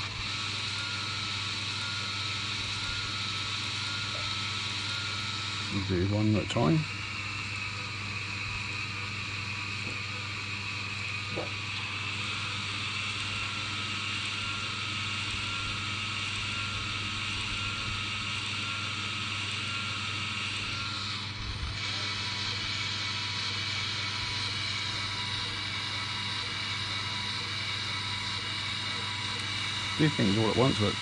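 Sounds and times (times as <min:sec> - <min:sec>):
toy electric motors whirring: 0:00.0 - 0:31.0.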